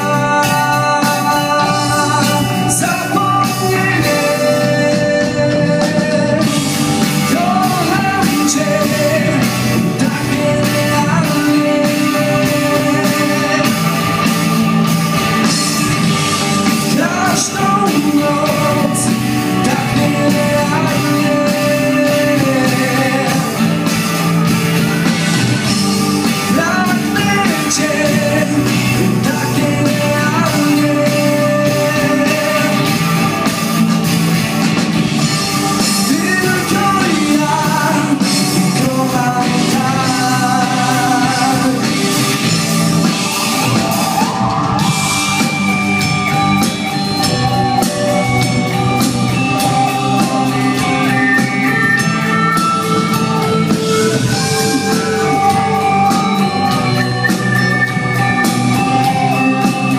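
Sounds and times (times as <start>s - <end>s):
person singing: 0.0s - 59.9s
rock band playing live: 0.0s - 59.9s.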